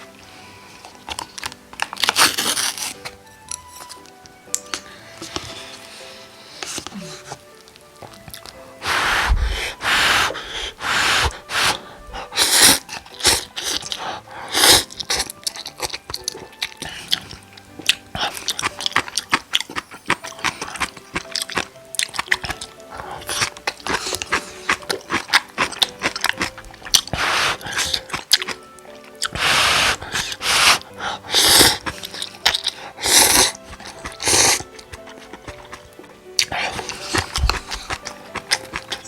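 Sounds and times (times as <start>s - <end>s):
slurping noodles: 0.0s - 3.7s, 8.1s - 39.0s
faint background music: 0.0s - 39.0s
wet chewing: 0.8s - 39.0s.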